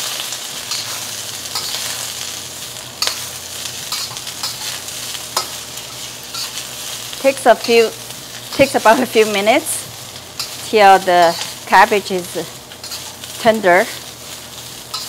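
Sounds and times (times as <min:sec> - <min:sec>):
cabbage sizzling in a wok: 0:00.0 - 0:15.0
metal spatula scraping wok: 0:00.5 - 0:02.4, 0:03.0 - 0:15.0.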